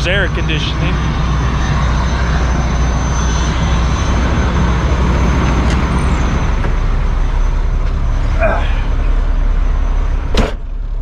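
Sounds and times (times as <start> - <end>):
diesel trucks idling: 0.0 - 11.0.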